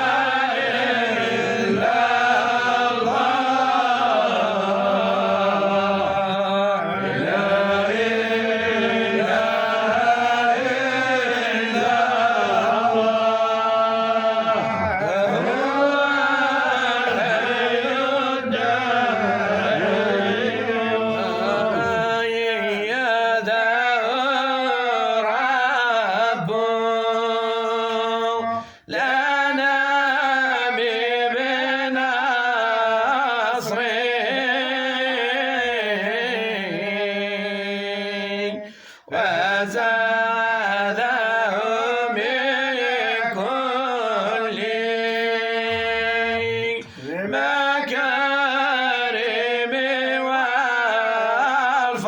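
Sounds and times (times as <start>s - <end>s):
man chanting: 0.0s - 52.0s.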